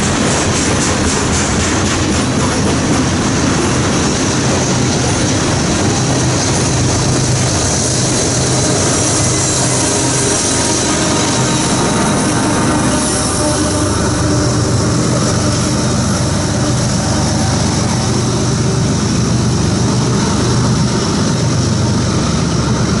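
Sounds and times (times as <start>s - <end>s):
diesel locomotive engine rumble: 0.0s - 23.0s.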